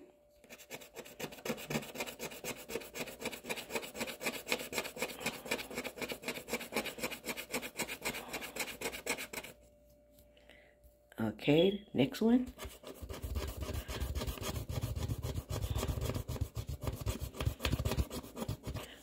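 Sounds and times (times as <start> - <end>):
scraping scratch-off card: 0.4 - 9.6, 12.5 - 19.0.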